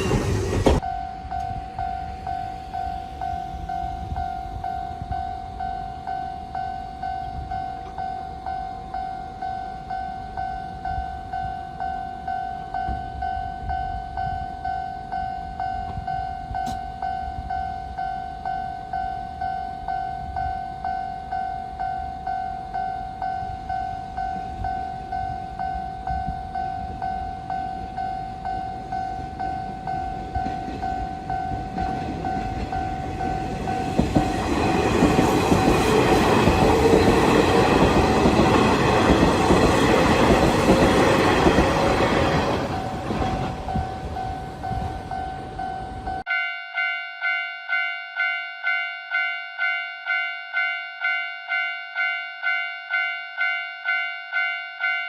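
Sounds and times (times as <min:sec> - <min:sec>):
train rumble: 0:00.0 - 0:46.3
railroad crossing bell ringing: 0:00.0 - 0:55.0.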